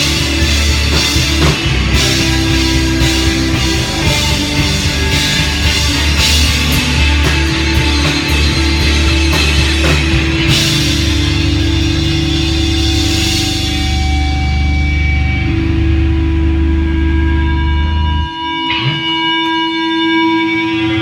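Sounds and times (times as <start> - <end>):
rock band playing loudly: 0.0 - 21.0.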